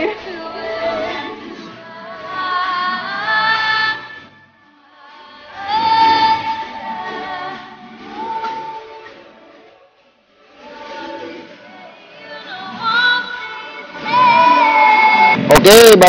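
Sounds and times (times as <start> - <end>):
song with sung vocals: 0.0 - 16.0.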